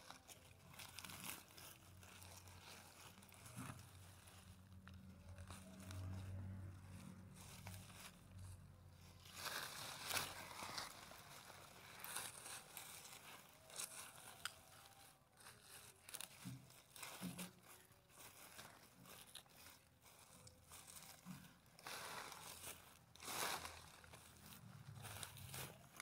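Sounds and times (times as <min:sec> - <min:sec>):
hands rustling dry leaves: 0:00.0 - 0:26.0.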